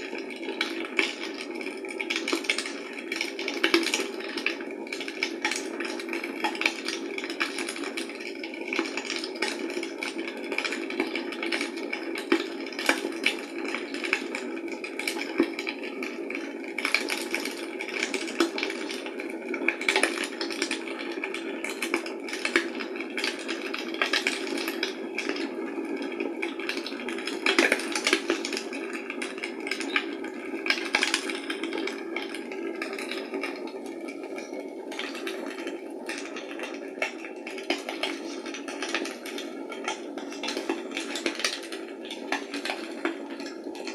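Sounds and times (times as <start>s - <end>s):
fire crackling and popping: 0.6s - 15.6s, 16.7s - 20.9s, 21.6s - 25.5s, 30.7s - 43.9s.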